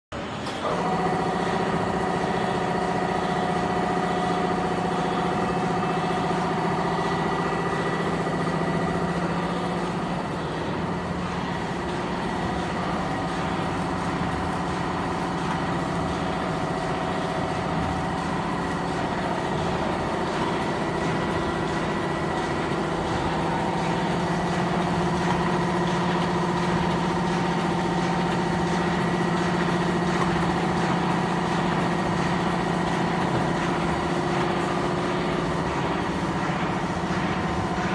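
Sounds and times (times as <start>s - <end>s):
die-cutting machine humming: 0.2s - 37.9s.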